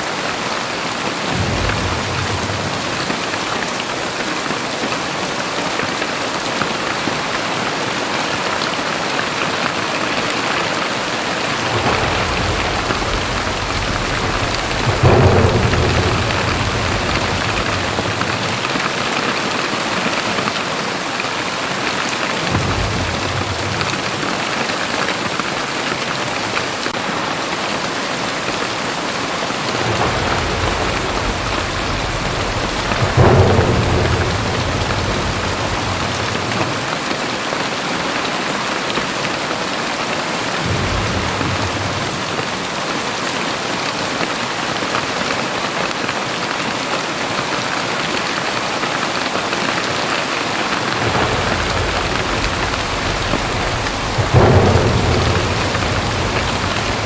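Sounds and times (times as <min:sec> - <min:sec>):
heavy rain pouring: 0:00.0 - 0:57.0
thunder rolling: 0:00.1 - 0:38.6, 0:40.1 - 0:45.9, 0:49.2 - 0:57.0.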